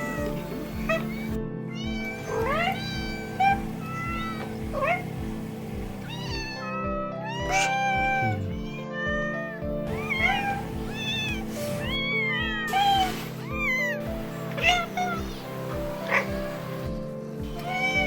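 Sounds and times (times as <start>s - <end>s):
background music: 0.0s - 18.0s
cats meowing: 0.0s - 18.0s.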